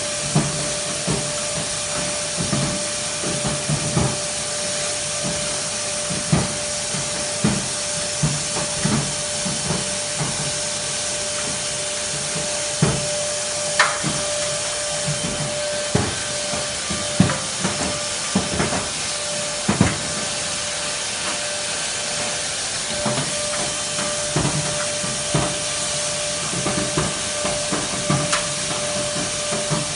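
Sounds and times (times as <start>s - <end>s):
hose knocking on duct walls: 0.1s - 29.9s
loud rush of air: 4.2s - 29.9s.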